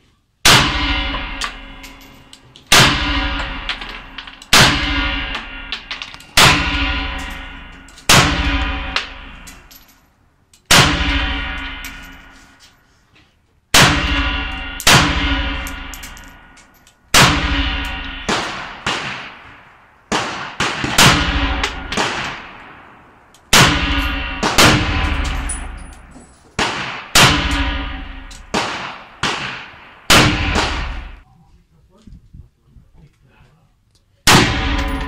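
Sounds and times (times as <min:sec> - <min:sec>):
rifle shots with ringing decay: 0:00.4 - 0:09.7, 0:10.7 - 0:12.4, 0:13.7 - 0:16.4, 0:17.1 - 0:31.2, 0:34.3 - 0:35.0.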